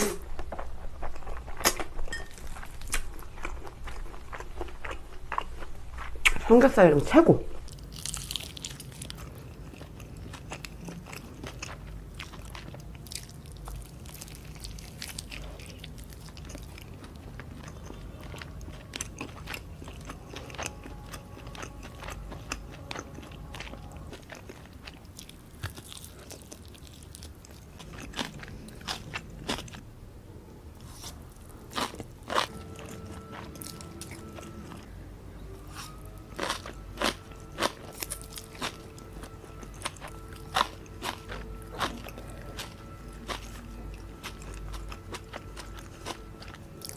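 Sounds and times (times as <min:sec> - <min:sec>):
person biting and chewing: 0:01.0 - 0:06.4, 0:07.7 - 0:29.8, 0:35.6 - 0:46.9.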